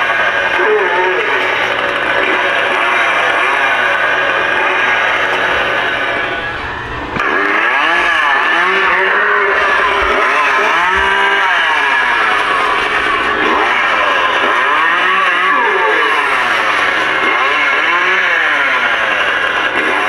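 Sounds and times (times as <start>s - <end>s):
recorded chainsaw revving: 0.0s - 20.0s.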